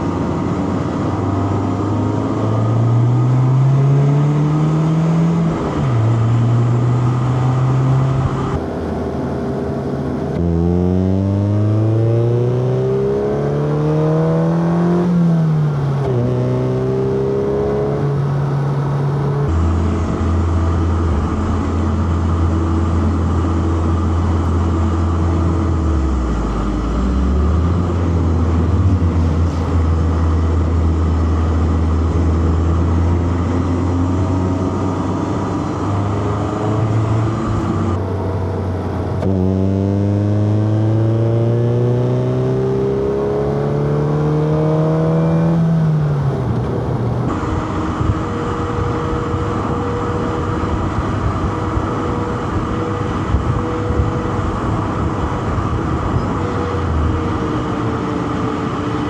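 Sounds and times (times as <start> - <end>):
car engine revving through gears: 0.0 - 59.0.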